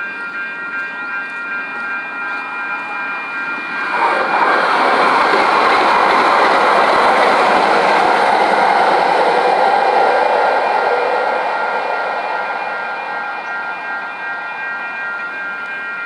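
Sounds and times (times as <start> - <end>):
light-rail train passing: 0.7 - 16.0.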